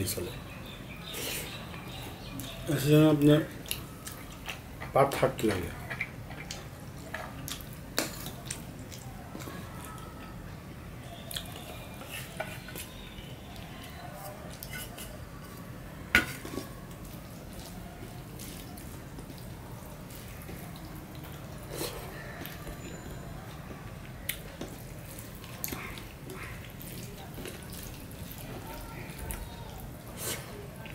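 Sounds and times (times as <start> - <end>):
hand mixing wet food: 0.0 - 30.9.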